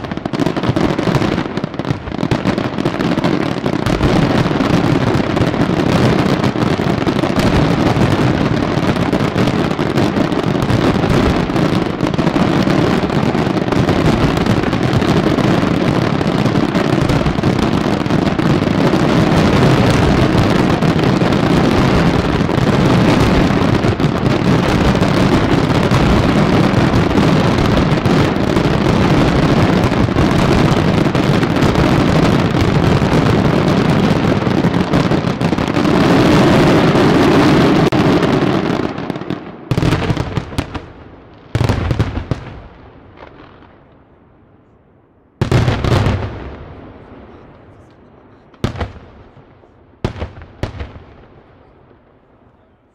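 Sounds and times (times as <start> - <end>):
fireworks rumble: 0.0 - 52.9.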